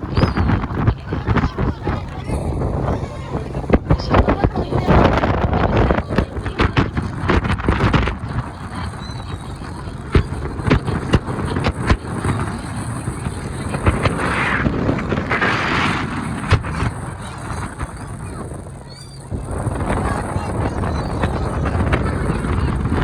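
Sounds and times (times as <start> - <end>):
boat engine rumble: 0.0 - 23.0
wind buffeting microphone: 0.0 - 23.0.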